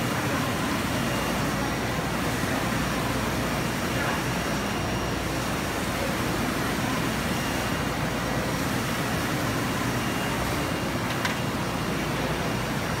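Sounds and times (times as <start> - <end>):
printer running: 0.0 - 13.0.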